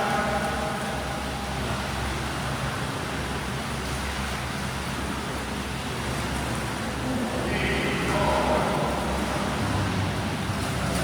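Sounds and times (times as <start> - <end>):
churning water: 0.0 - 11.0.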